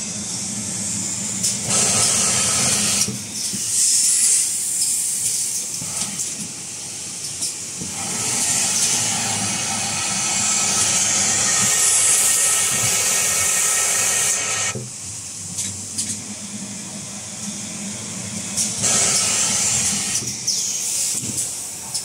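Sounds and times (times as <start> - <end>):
machine hissing: 0.0 - 22.0.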